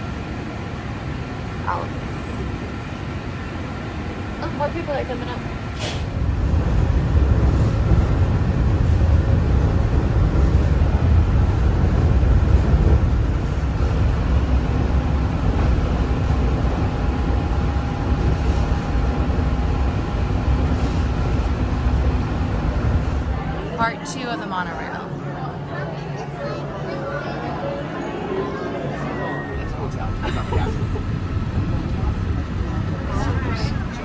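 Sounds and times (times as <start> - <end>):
monorail cabin rumble: 0.0 - 34.0.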